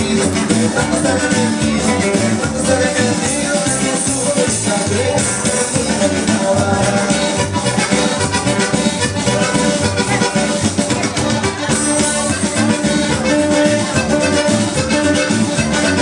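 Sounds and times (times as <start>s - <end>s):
latin dance music: 0.0s - 16.0s.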